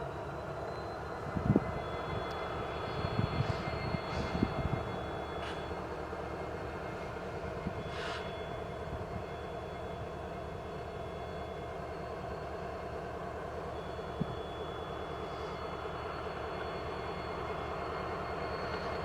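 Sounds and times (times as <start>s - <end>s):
diesel locomotive engines idling: 0.0s - 19.0s.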